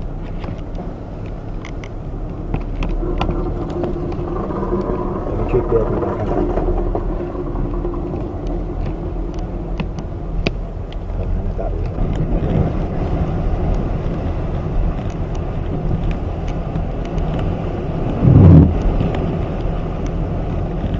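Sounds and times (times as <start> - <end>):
strong wind buffeting microphone: 0.1 - 20.9.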